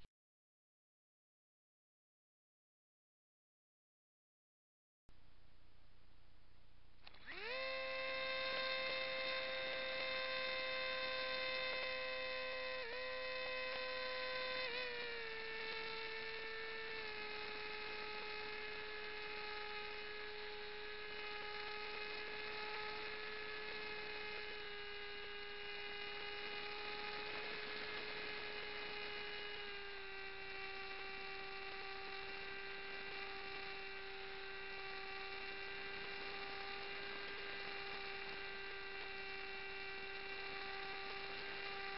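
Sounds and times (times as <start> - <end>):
model aircraft motor whining: 7.0 - 41.9.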